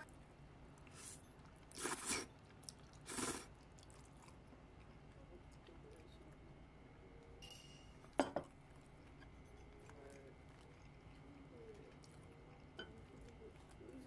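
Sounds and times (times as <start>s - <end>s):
chewing: 0.0s - 6.4s, 8.0s - 14.0s.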